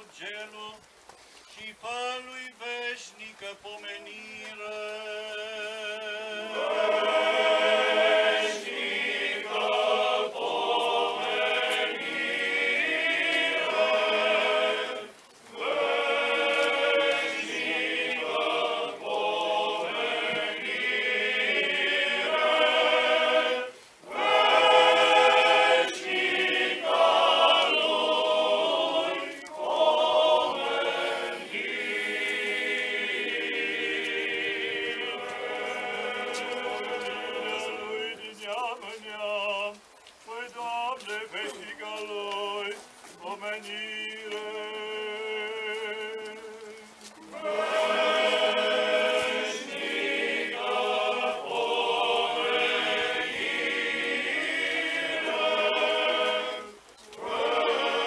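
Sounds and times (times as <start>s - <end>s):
male choir singing a hymn: 1.6s - 58.0s.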